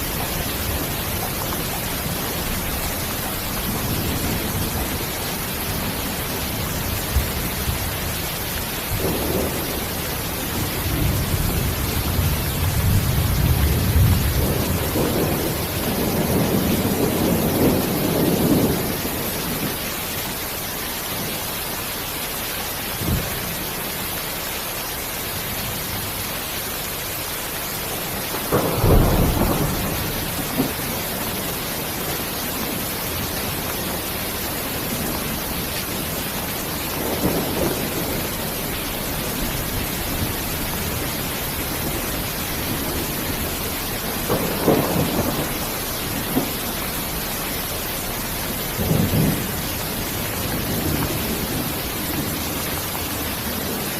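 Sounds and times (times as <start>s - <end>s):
thunder rumbling: 0.0s - 20.4s, 26.8s - 53.9s
steady rain hiss: 0.0s - 53.9s.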